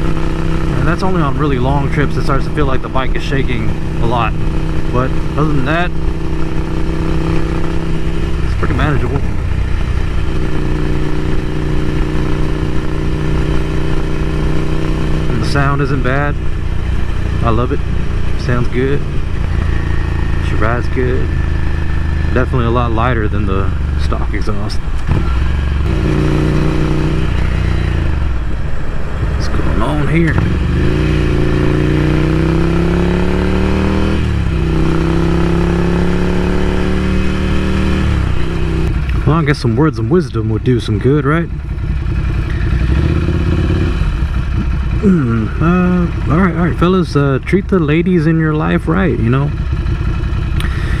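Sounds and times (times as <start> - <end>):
motorcycle engine cruising: 0.0 - 51.0.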